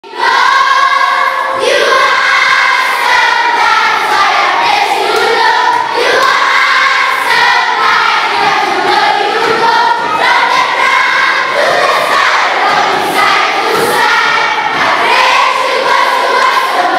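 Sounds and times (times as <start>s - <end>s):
children's choir singing: 0.0s - 16.9s.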